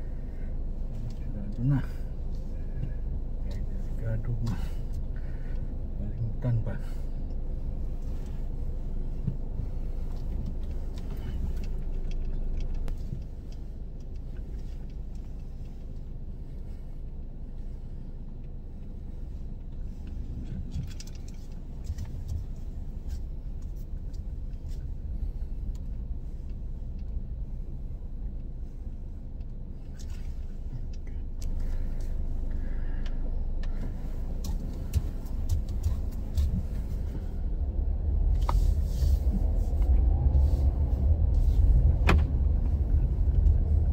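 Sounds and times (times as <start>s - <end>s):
car engine low rumble: 0.0s - 43.9s.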